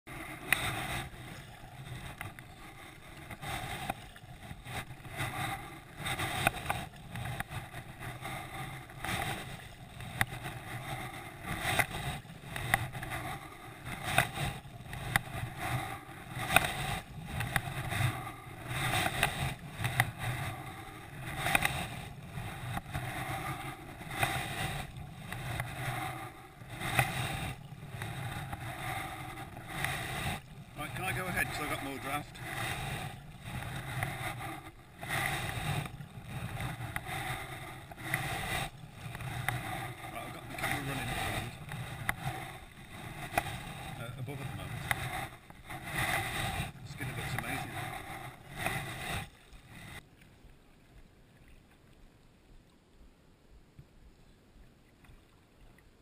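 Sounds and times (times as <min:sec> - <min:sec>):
water washing along kayak hull: 0:00.0 - 0:56.0
paddle dipping into water: 0:00.1 - 0:52.2.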